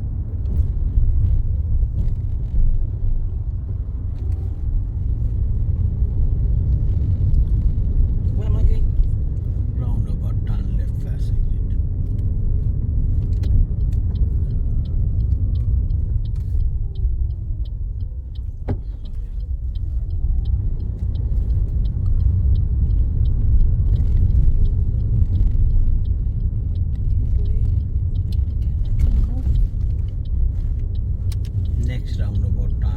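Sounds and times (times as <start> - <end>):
car road and engine rumble: 0.0 - 32.9
light even ticking: 0.2 - 32.9.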